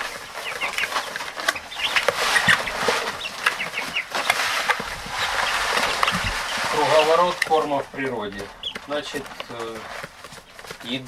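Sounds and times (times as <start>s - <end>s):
chicks peeping: 0.0s - 11.0s
steady rustle: 0.0s - 11.0s.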